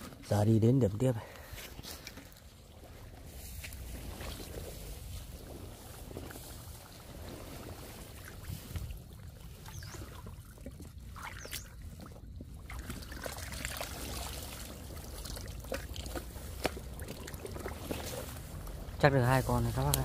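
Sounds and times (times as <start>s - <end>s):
shallow water trickling: 0.2s - 20.0s
small splashes and knocks: 1.4s - 20.0s.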